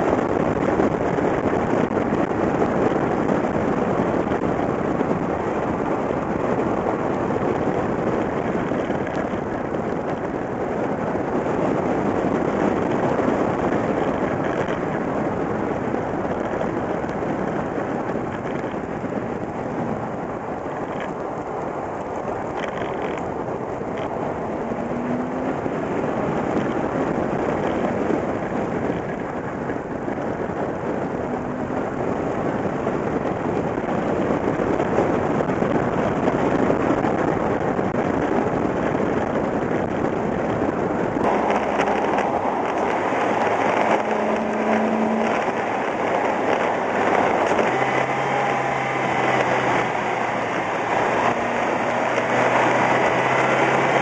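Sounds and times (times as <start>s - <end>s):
car tyre noise: 0.0s - 54.0s
wind rush: 0.0s - 54.0s.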